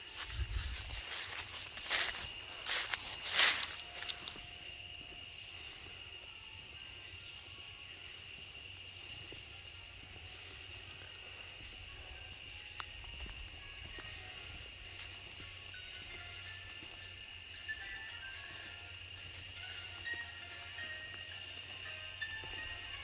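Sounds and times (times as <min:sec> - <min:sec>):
rustling footsteps: 0:00.0 - 0:06.0, 0:09.2 - 0:23.0
night insects chirring: 0:00.0 - 0:23.0.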